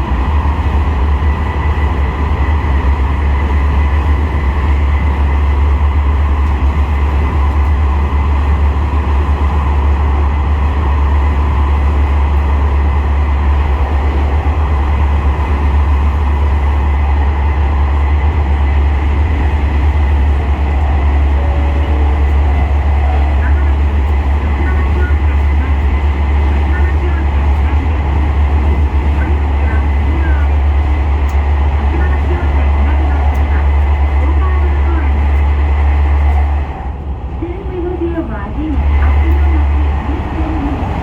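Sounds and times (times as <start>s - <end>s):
diesel railcar rumbling: 0.0s - 41.0s.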